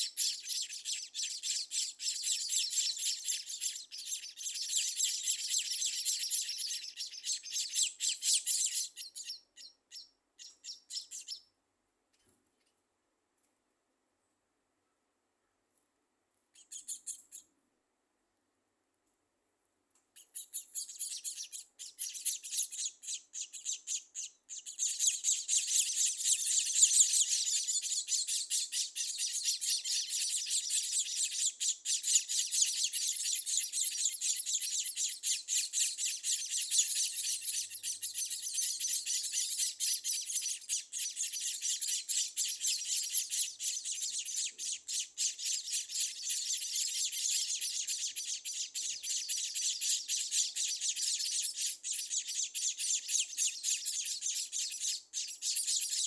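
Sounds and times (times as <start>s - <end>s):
birds chirping rapidly: 0.0s - 11.6s, 16.6s - 17.5s, 20.2s - 56.0s.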